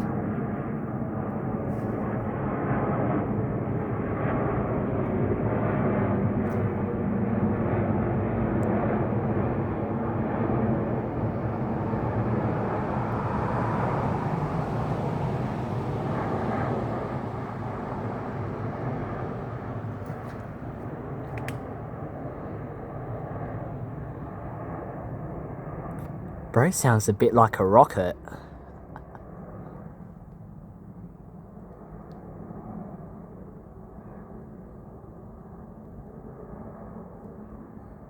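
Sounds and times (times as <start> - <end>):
airliner flying overhead: 0.0 - 38.0.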